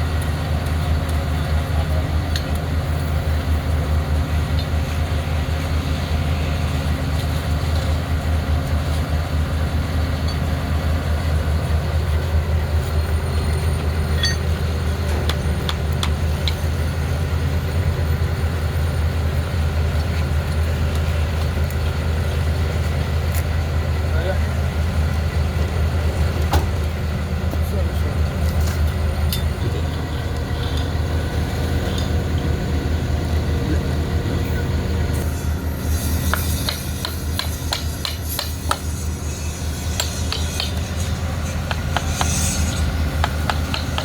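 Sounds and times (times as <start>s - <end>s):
heavy engine droning: 0.0s - 44.0s.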